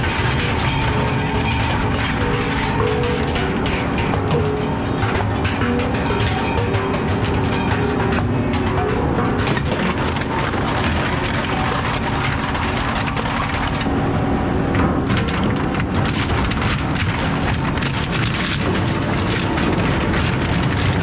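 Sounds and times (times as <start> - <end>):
shredder grinding and cracking: 0.0 - 13.9, 15.0 - 21.0
wooden pallets tumbling: 0.0 - 13.9, 14.8 - 21.0.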